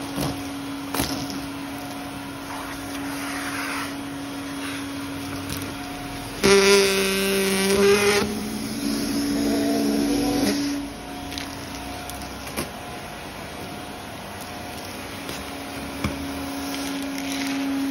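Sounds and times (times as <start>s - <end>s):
vacuum cleaner whine: 0.0s - 17.9s.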